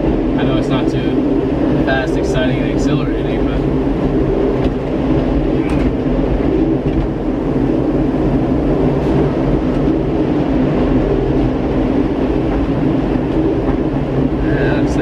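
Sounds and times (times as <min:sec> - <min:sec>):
tram rumbling along track: 0:00.0 - 0:15.0.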